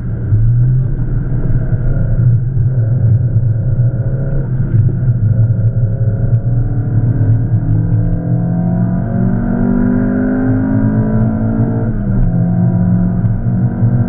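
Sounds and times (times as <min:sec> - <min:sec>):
car engine drone from cabin: 0:00.0 - 0:14.0.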